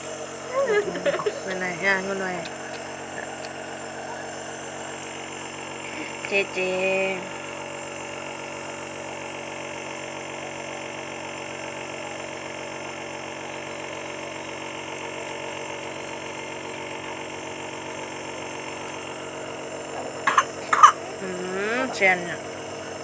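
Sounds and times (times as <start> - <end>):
nebulizer mechanical hum: 0.0 - 23.0.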